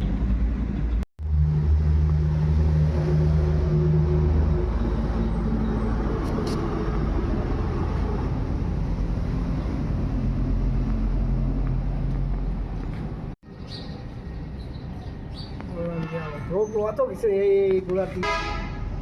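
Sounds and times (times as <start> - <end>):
engine running with low hum: 0.0 - 15.4.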